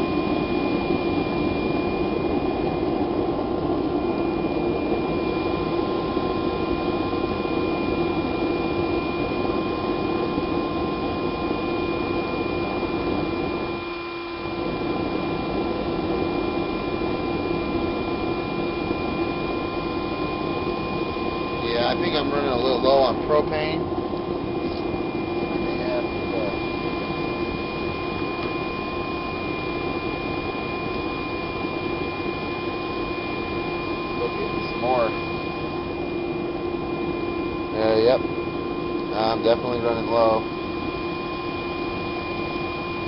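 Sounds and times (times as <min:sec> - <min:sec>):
gas burner rushing: 0:00.0 - 0:43.0.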